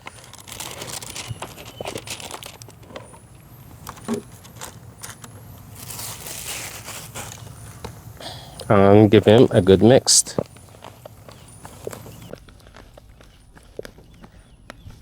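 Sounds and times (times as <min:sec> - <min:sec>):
faint high rising chirps: 0:00.0 - 0:12.3.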